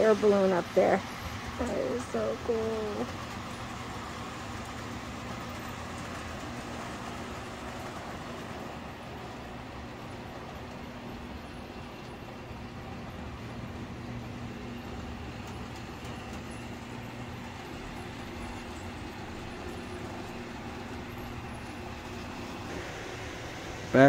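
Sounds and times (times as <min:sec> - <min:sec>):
toy trains whirring: 0:00.0 - 0:24.0.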